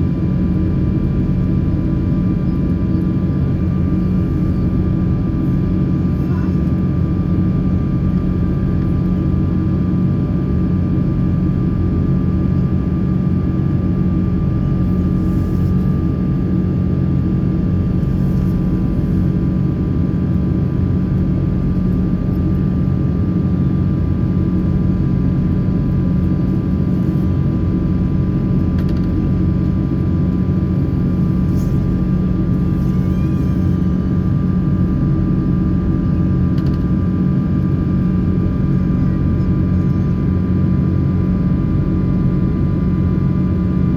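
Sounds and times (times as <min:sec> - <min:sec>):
aircraft cabin rumble: 0:00.0 - 0:43.9
faint steady whine: 0:00.6 - 0:43.7.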